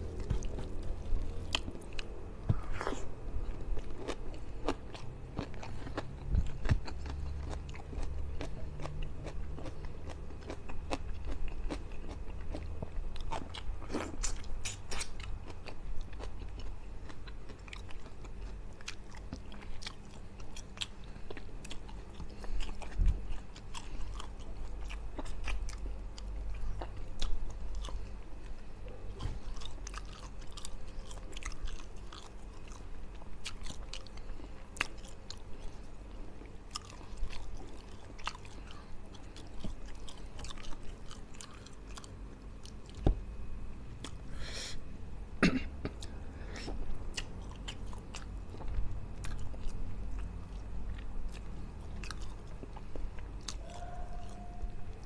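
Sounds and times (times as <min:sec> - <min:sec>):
person chewing: 0:00.0 - 0:43.0, 0:45.8 - 0:55.0.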